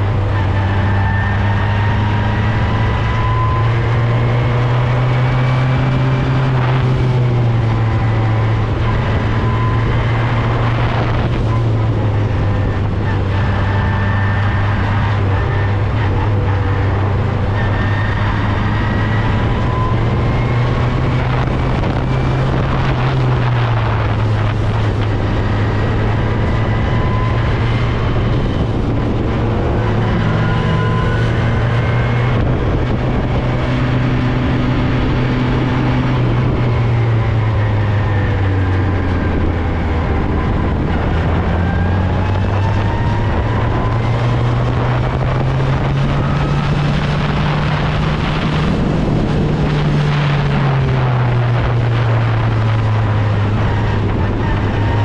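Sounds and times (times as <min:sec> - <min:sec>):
race car engine at speed: 0:00.0 - 0:55.0
wind buffeting microphone: 0:00.0 - 0:55.0.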